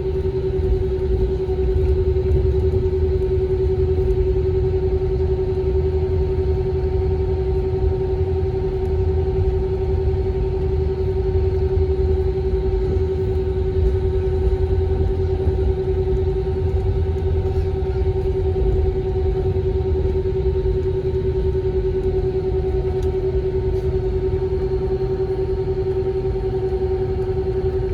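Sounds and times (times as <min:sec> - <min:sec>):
airliner cabin rumble: 0:00.0 - 0:27.9.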